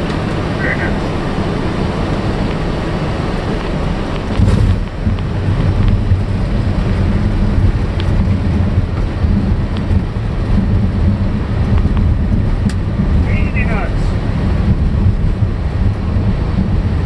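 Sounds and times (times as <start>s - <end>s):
aircraft landing rumble: 0.0s - 17.0s.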